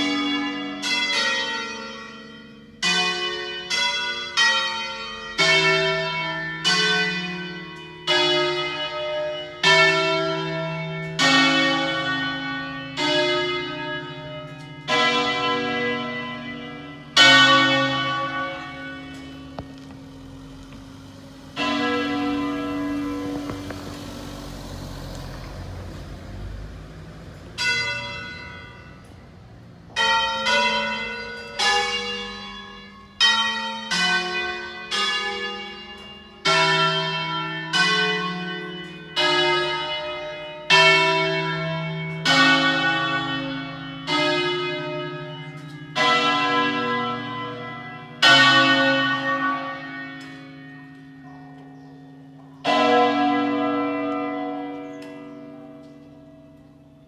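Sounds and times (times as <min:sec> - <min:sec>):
church bells ringing melody: 0:00.0 - 0:57.0.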